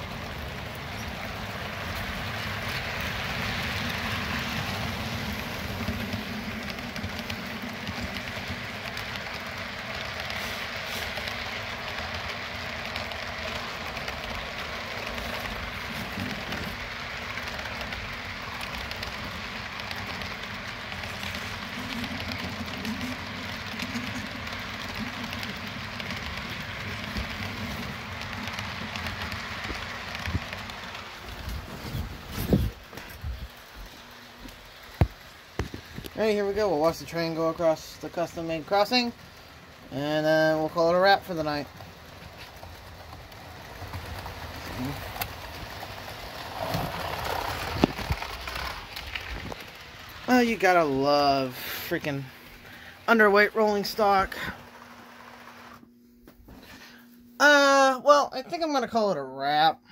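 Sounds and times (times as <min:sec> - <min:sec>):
model train wheels rumbling on track: 0:00.0 - 0:55.8.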